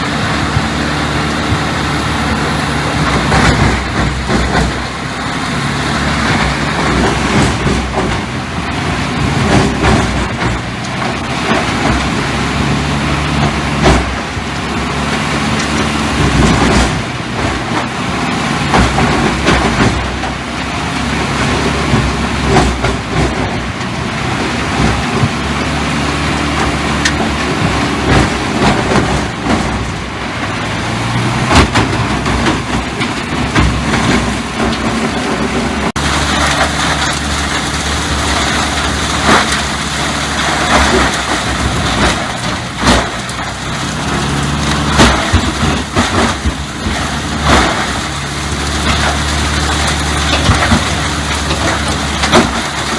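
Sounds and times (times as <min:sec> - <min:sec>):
tree-cutting machine engine: 0:00.0 - 0:52.9
wood cracking and splintering: 0:00.0 - 0:52.9.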